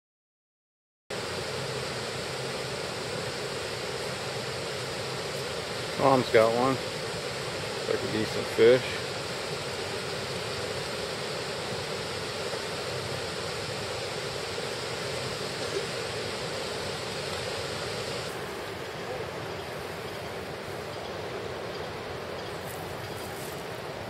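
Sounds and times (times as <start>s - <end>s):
river water flowing: 1.1s - 24.0s.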